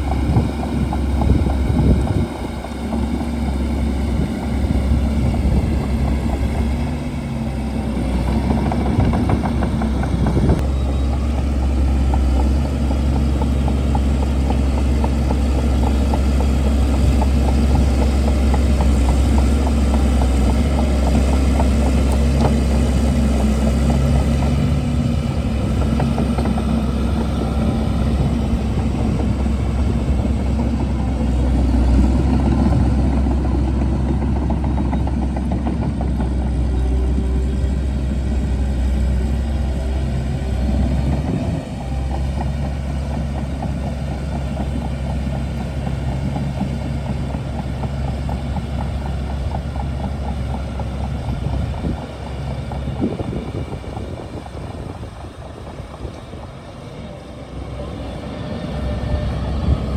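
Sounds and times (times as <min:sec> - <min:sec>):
bulldozer diesel engine rumbling: 0:00.0 - 0:59.9.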